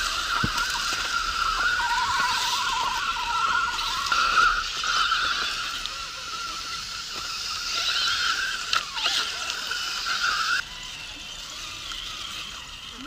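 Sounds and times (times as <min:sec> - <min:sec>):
toy truck electric motor whining: 0:00.0 - 0:13.0.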